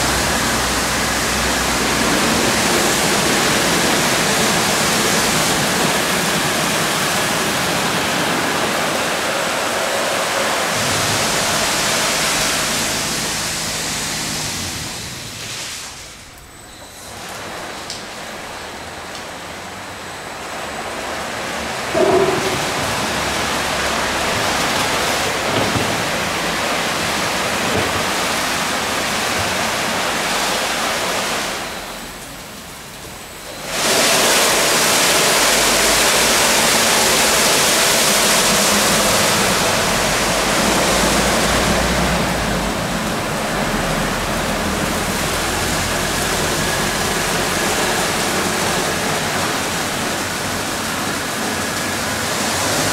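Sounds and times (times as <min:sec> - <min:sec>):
car wash brushes and water rushing: 0:00.0 - 0:52.9.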